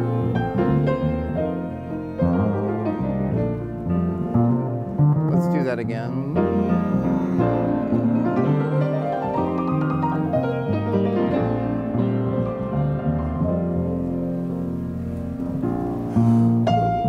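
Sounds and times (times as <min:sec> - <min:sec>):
piano chords and melody: 0:00.0 - 0:17.0.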